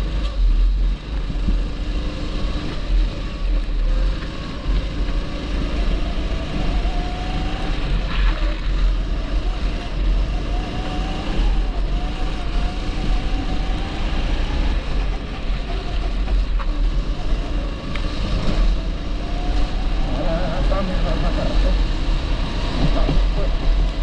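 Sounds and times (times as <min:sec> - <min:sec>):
kart engine running: 0:00.0 - 0:24.0.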